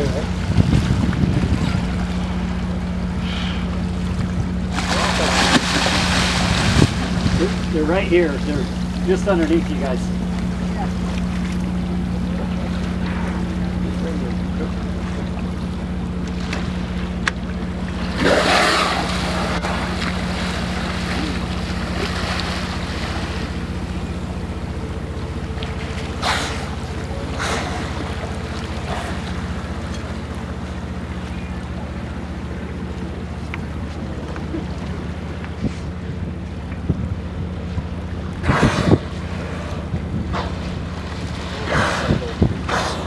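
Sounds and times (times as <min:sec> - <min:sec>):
ship engine drone: 0:00.0 - 0:43.0
water washing along hull: 0:00.0 - 0:43.0.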